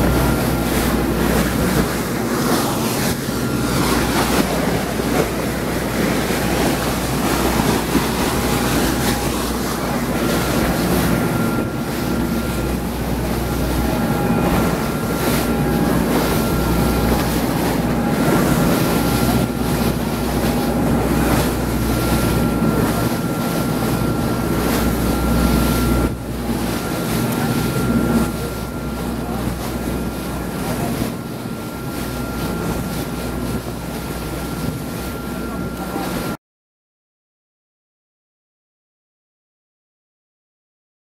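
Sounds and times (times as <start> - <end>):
wind buffeting microphone: 0.0 - 36.2
boat engine running: 0.0 - 36.4
water rushing past hull: 0.0 - 36.4.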